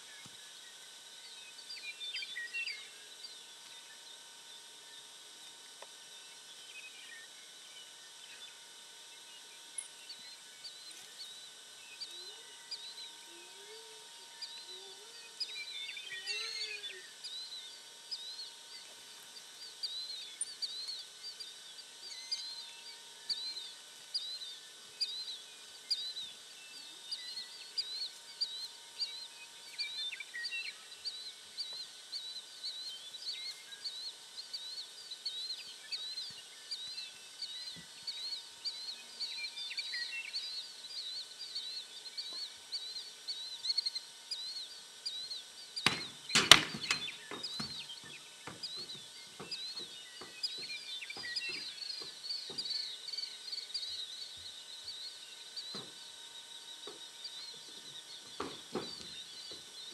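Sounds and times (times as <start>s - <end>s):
faint low bird calls: 0.0s - 59.9s
rural background: 0.0s - 59.9s
small birds chirping: 0.0s - 59.9s.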